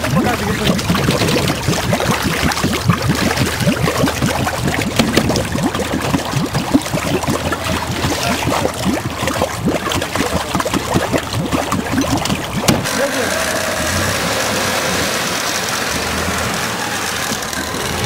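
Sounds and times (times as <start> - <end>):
exhaust bubbling through water: 0.0 - 18.0.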